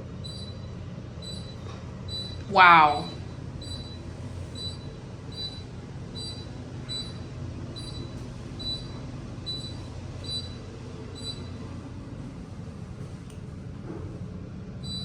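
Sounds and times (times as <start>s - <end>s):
elevator car rumbling: 0.0s - 15.0s.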